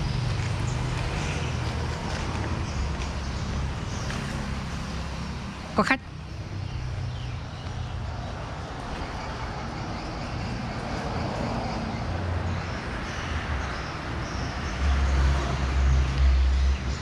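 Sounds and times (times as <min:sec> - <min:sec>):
road traffic rumble and hiss: 0:00.0 - 0:17.0.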